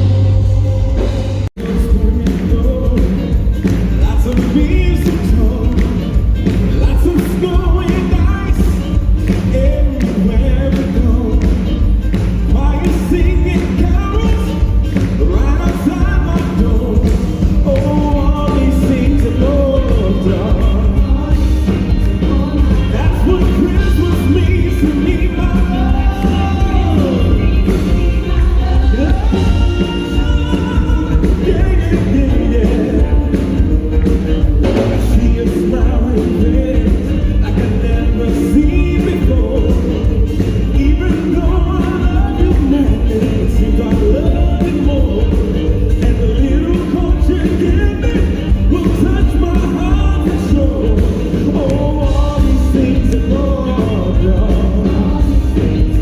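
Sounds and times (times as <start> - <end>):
music with singing and bass beat: 0.0 - 56.0.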